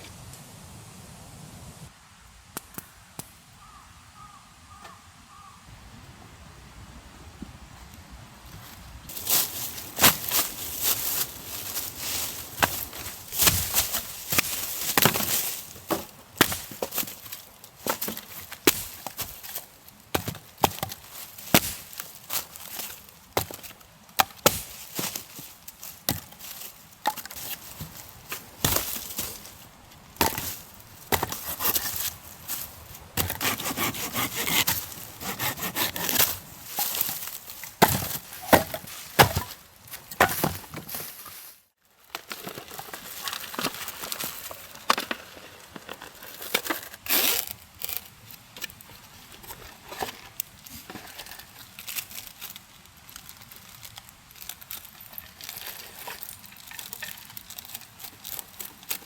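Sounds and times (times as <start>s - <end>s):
wood cracking and scraping: 9.1s - 41.4s, 42.0s - 59.0s.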